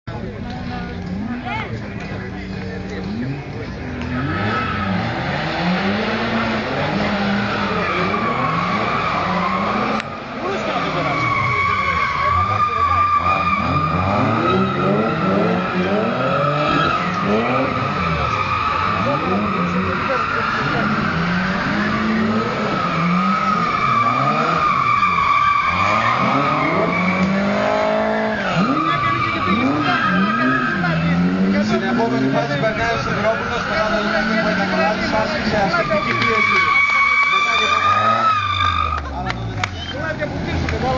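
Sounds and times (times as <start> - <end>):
car engine revving: 0.1 - 40.9
tyres squealing: 4.0 - 40.9.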